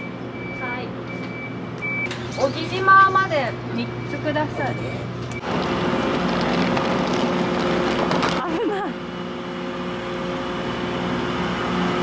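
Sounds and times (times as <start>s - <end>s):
ferry engines humming: 0.0s - 12.0s.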